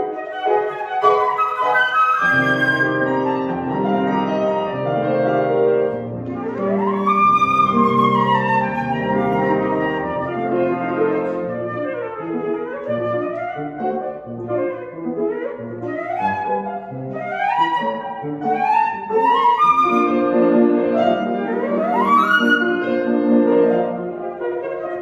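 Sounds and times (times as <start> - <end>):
flute playing quick runs: 0.0 - 4.2, 6.4 - 22.9
piano chords: 0.0 - 25.0.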